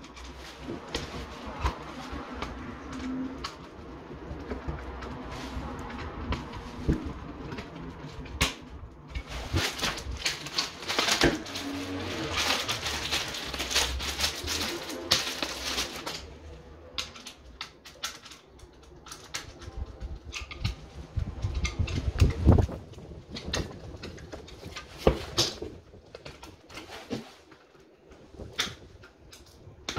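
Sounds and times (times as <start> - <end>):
screwdriver and wire clicks and scrapes: 0.0 - 27.8.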